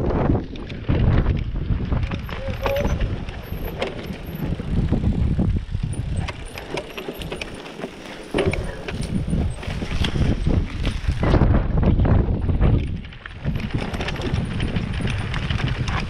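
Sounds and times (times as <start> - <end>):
mountain bike rattling and knocking: 0.0 - 16.0
tyre rumble: 0.0 - 16.0.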